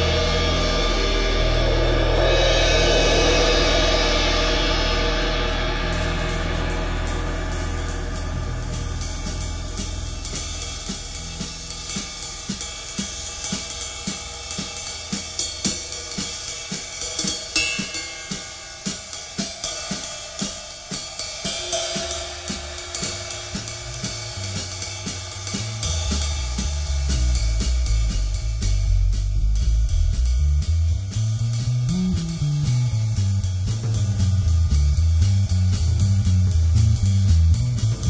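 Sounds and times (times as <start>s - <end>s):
bass notes: 0.0s - 14.8s, 22.2s - 38.0s
jazz drum kit playing: 0.0s - 38.0s.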